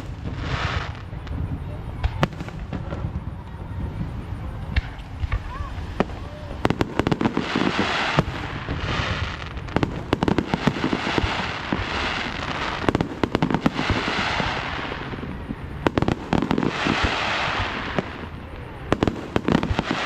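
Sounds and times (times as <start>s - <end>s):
crackling hiss: 0.0s - 20.0s
fireworks bangs and pops: 0.0s - 20.0s.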